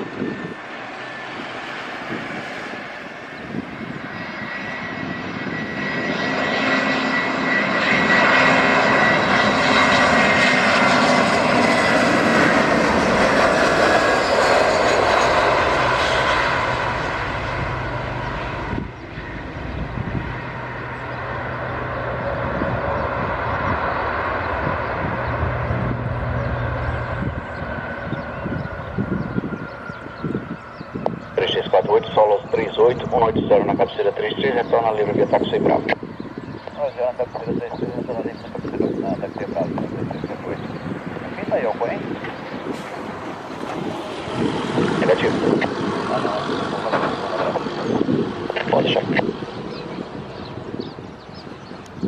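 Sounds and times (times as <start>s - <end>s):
aircraft rumble on runway: 0.0s - 52.0s
jet engine whine: 0.0s - 52.0s.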